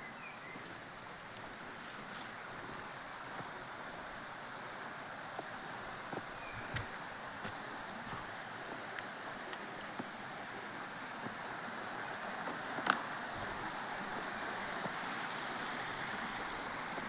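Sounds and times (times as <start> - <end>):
wind or rustling foliage: 0.0 - 17.0.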